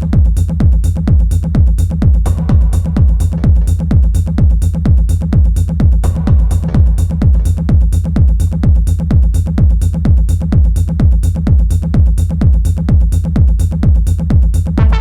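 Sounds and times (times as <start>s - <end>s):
low bass line: 0.0s - 15.0s
techno kick drum: 0.0s - 15.0s.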